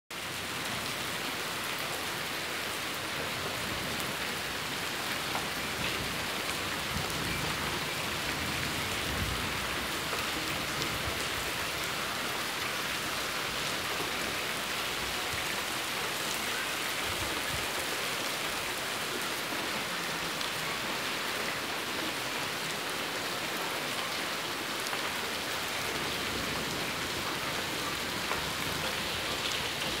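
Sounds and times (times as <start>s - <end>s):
heavy rain falling: 0.1s - 30.0s.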